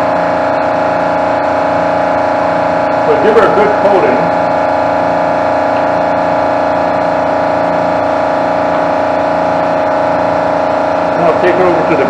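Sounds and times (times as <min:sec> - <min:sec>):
machinery humming drone: 0:00.0 - 0:12.0.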